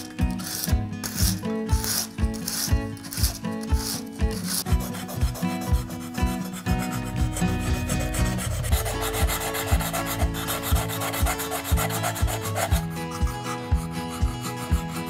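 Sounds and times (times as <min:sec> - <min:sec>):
plane iron grinding on abrasive: 0:00.0 - 0:15.0.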